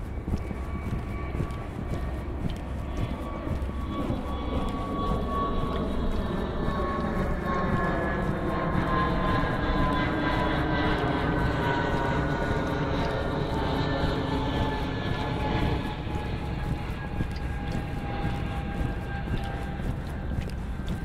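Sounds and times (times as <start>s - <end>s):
jet airliner flying overhead: 0.0s - 21.0s.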